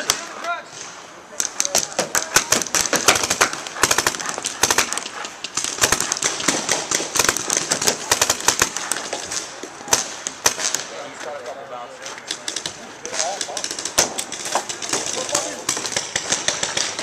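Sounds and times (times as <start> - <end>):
paintball markers firing rapidly: 1.4 - 10.9, 12.1 - 17.0.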